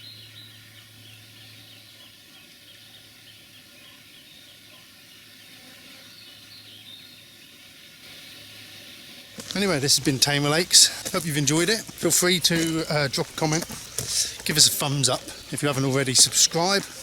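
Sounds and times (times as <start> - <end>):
birdsong chirps: 0.0 - 17.0.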